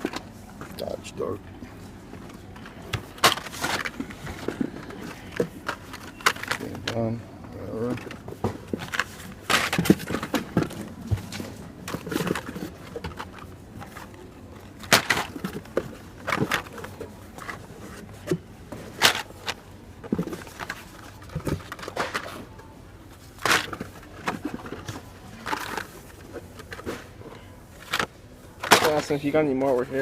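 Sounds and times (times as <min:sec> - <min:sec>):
plastic blister packs clacking: 0:02.1 - 0:30.0.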